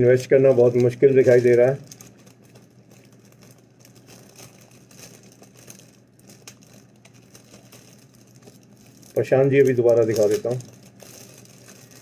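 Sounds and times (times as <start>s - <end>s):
paper and plastic crinkling: 0.0s - 12.0s.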